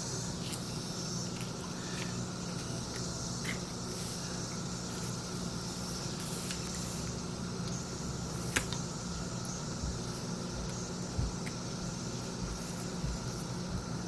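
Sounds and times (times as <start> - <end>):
low hum with hiss: 0.0 - 14.0.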